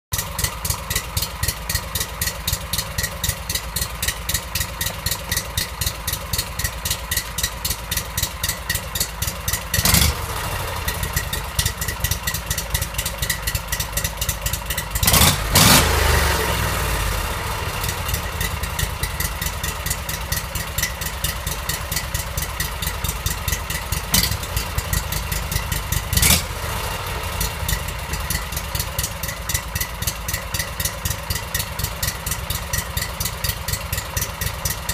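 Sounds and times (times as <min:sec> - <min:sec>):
engine idling and revving: 0:00.1 - 0:34.9.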